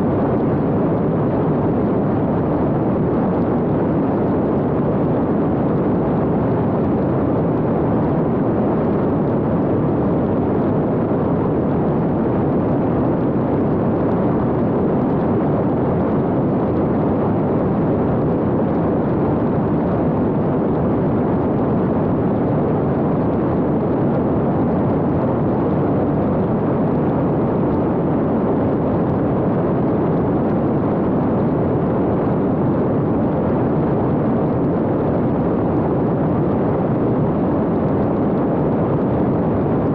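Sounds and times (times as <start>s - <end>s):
drone airflow and motor noise: 0.0s - 39.9s.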